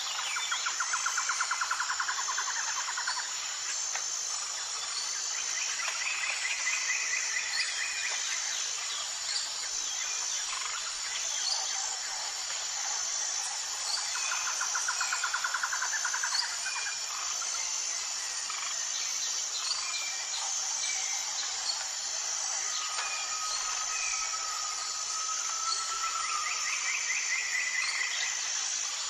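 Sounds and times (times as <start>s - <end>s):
high insect buzz: 0.0s - 29.0s.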